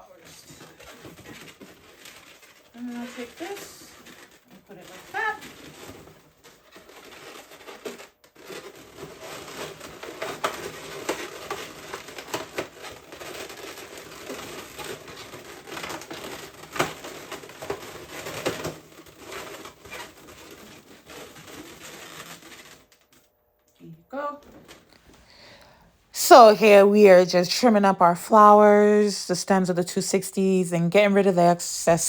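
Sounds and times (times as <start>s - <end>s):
balloons crinkling and rubbing: 0.0s - 23.3s, 24.4s - 32.0s.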